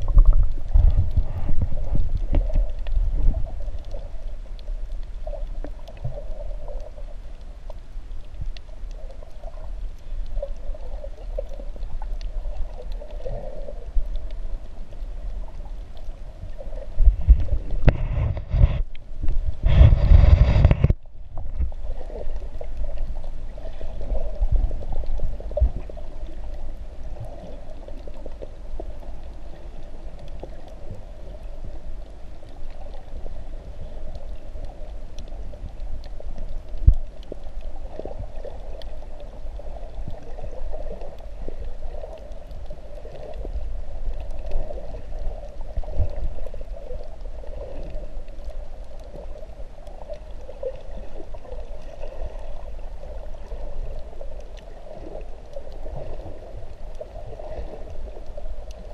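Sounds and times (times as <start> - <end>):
underwater rumble of moving water: 0.0 - 58.9.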